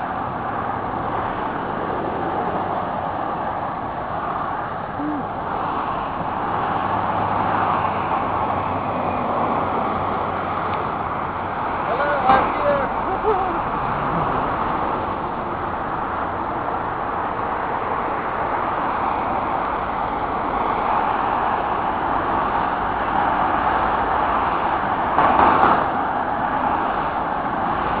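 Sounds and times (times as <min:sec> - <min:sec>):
motorway traffic noise: 0:00.0 - 0:28.0
vehicle passing: 0:00.0 - 0:28.0.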